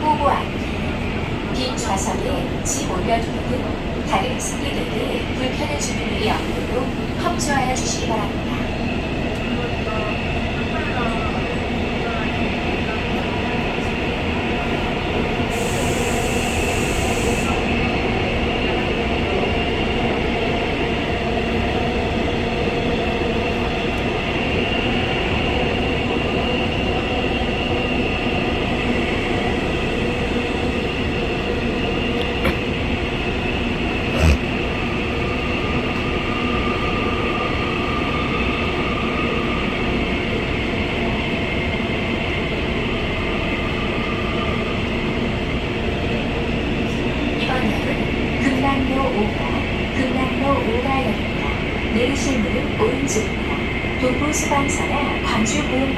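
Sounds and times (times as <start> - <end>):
subway train rumble: 0.0 - 55.9.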